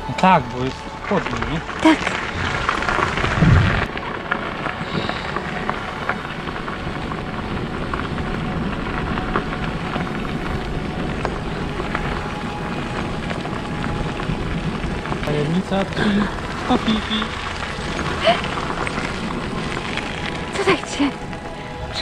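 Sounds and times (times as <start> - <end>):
bicycle tyres on gravel: 0.0 - 22.0.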